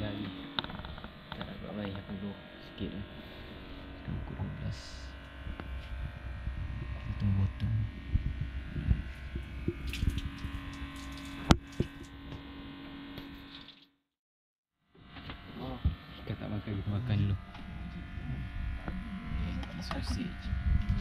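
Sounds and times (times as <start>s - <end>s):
boat engine droning: 0.0s - 13.8s, 14.9s - 21.0s.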